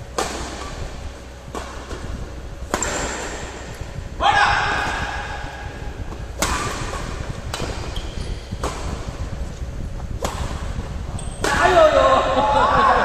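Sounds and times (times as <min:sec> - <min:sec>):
rackets hitting shuttlecock: 0:00.0 - 0:04.0, 0:04.6 - 0:12.4.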